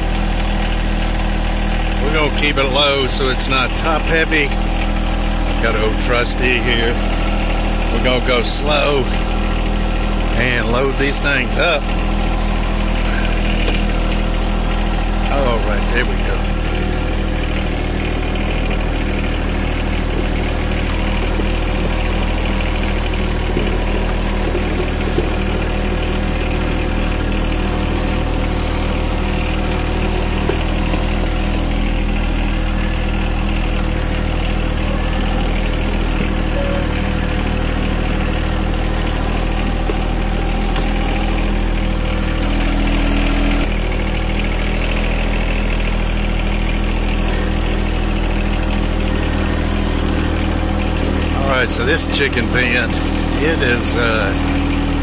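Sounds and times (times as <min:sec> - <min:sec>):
machine engine idling: 0:00.0 - 0:55.0.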